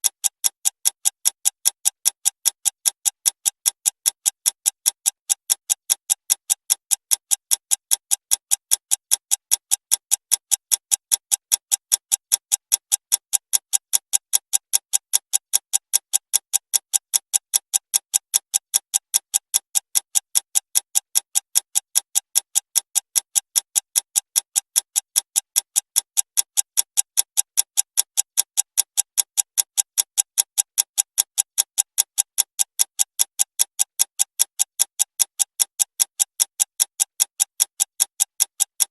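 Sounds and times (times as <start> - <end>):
fast clock ticking: 0.0 - 38.9.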